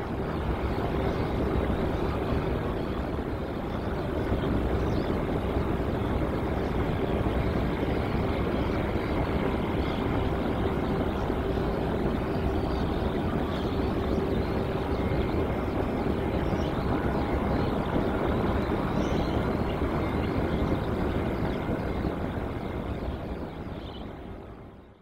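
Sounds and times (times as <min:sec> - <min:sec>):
jet airliner engine rumble: 0:00.0 - 0:25.0
jet engine whine: 0:00.0 - 0:25.0.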